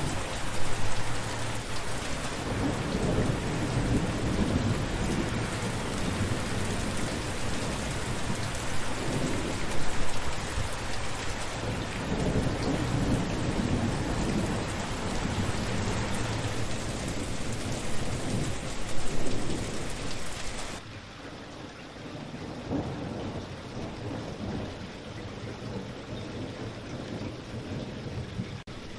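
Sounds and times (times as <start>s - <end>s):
thunder rumbling: 0.0s - 20.8s, 22.1s - 28.9s
steady rain falling: 0.0s - 28.9s.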